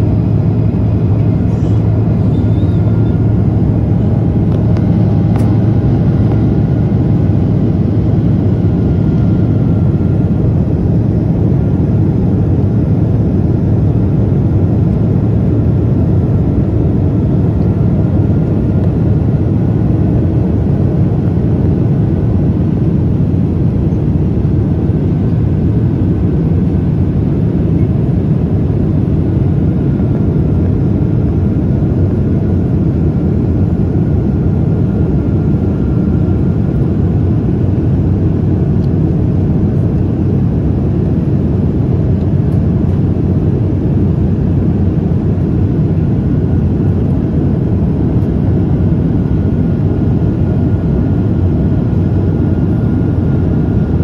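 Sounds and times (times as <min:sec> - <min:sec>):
aircraft cabin engine rumble: 0:00.0 - 0:54.0
faint engine whine: 0:00.0 - 0:54.0.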